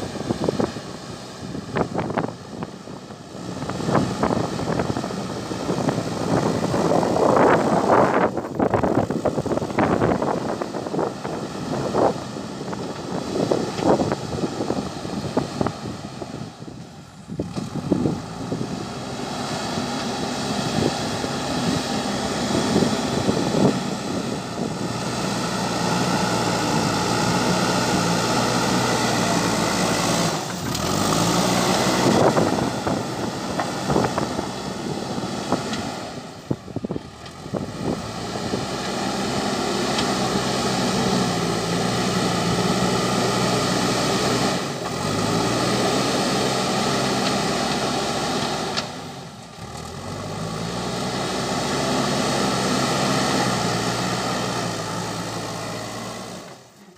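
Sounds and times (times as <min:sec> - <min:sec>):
diesel engine running under load: 0:00.0 - 0:56.9.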